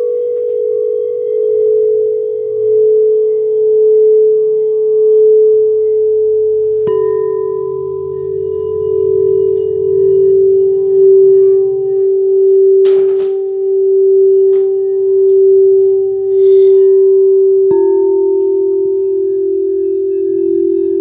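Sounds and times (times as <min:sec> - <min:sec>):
singing bowl ringing: 0:00.0 - 0:21.0
singing bowl struck: 0:00.0 - 0:21.0.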